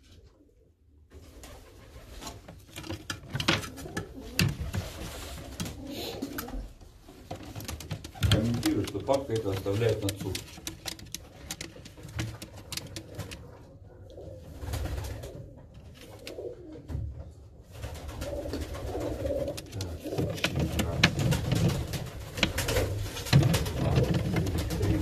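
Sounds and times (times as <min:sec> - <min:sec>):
pigeons cooing: 0:03.3 - 0:25.0.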